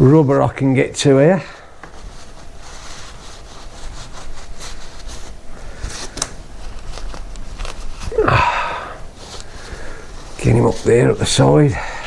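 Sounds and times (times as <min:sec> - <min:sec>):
scrubbing and rubbing strokes: 0:00.0 - 0:12.0.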